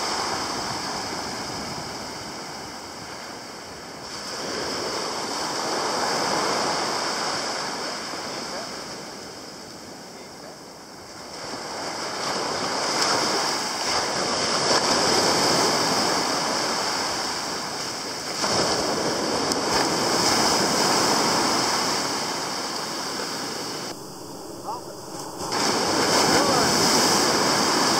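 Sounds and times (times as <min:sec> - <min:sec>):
sea waves breaking on beach: 0:00.0 - 0:27.9.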